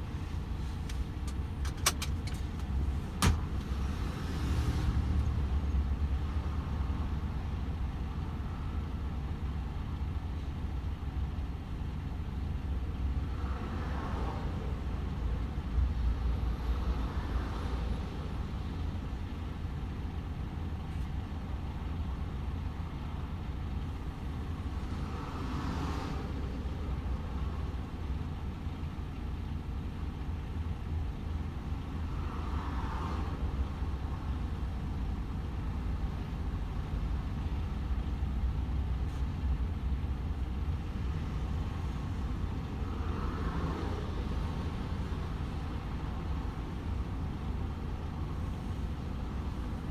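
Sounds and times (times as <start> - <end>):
road and tyre noise: 0.0 - 49.9.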